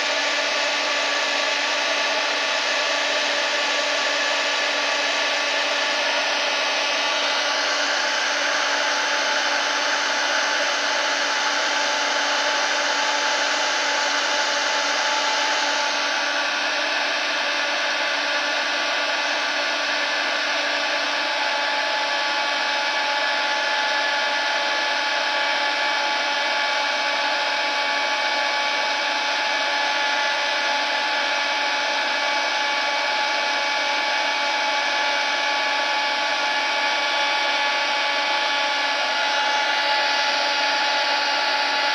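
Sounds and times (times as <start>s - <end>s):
hair dryer running: 0.0s - 41.9s.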